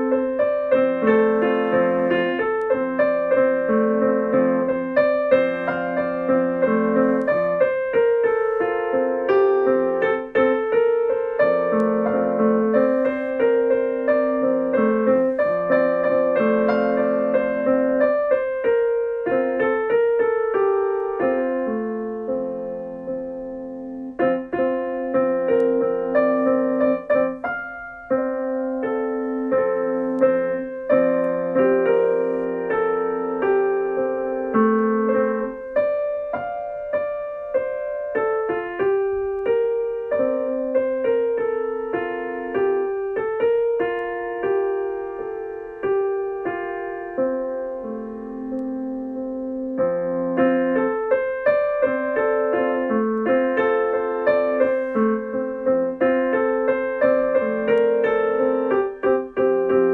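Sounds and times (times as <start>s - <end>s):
piano melody over chords: 0.0s - 59.9s.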